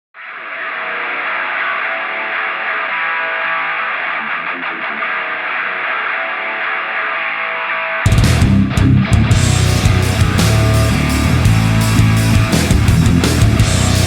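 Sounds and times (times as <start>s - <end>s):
rock music through small speaker: 0.2s - 14.0s.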